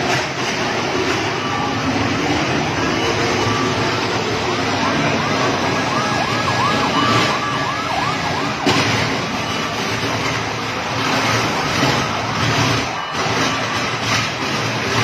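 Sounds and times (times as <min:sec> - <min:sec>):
street noise: 0:00.0 - 0:15.0
siren yelping: 0:00.6 - 0:15.0.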